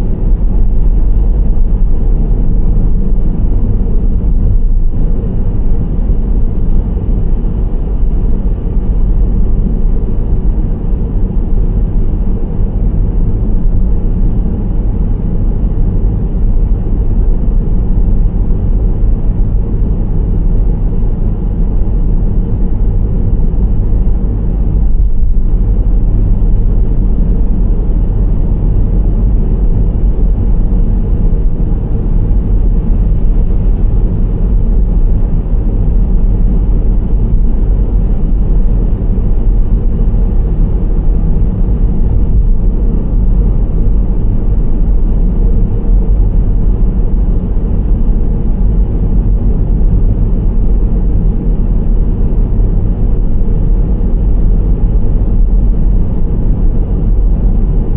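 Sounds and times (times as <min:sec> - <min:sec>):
minivan road and engine rumble: 0:00.0 - 0:57.9.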